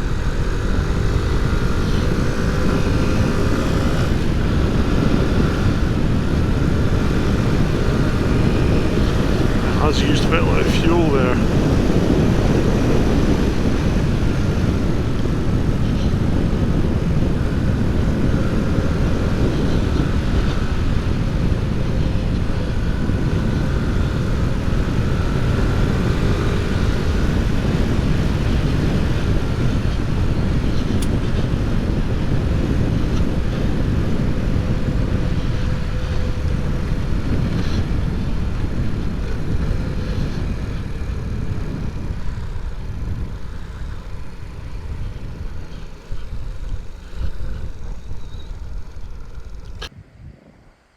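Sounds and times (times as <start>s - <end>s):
small motorcycle engine running: 0.0s - 50.0s
wind rumble on microphone: 0.0s - 50.9s.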